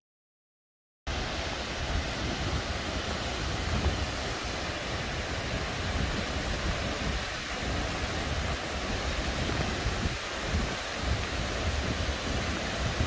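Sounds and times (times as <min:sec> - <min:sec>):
river rushing over rocks: 0:01.1 - 0:13.0
wind rumble on microphone: 0:01.1 - 0:13.0.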